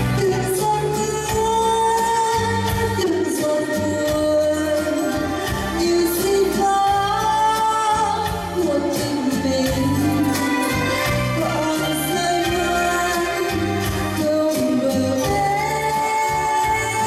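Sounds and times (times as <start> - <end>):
woman singing a ballad: 0.0 - 17.0.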